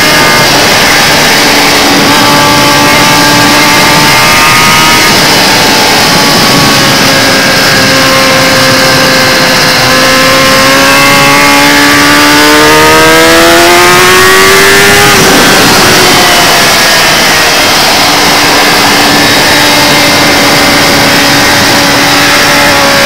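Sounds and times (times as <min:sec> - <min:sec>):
motorcycle engine accelerating: 0:00.0 - 0:23.0
wind rush: 0:00.0 - 0:23.0.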